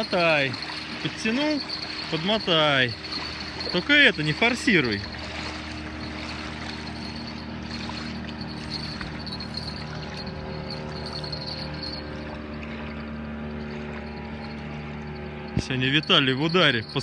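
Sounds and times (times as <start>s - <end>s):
steady low hum: 0.0s - 17.0s
waves lapping at shore: 0.0s - 17.0s.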